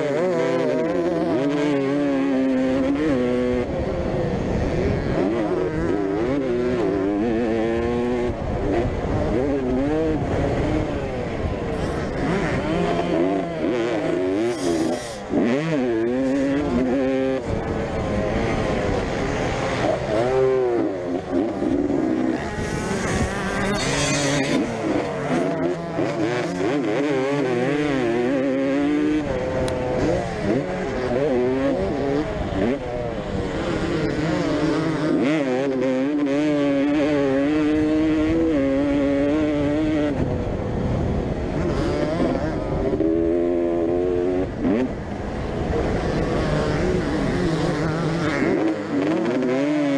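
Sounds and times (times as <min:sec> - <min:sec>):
motocross bikes racing: 0:00.0 - 0:49.9.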